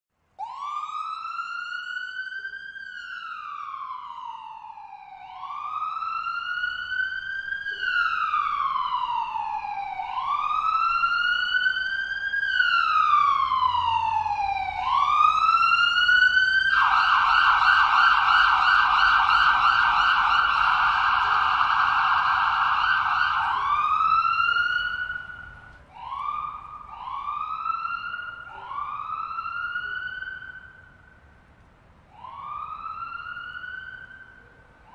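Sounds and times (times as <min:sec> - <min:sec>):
ambulance siren: 0:00.4 - 0:34.9.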